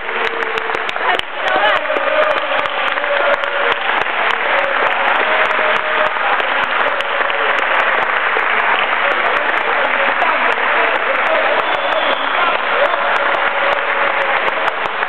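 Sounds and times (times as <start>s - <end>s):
crowd clapping: 0.0s - 15.0s
voices: 0.0s - 15.0s.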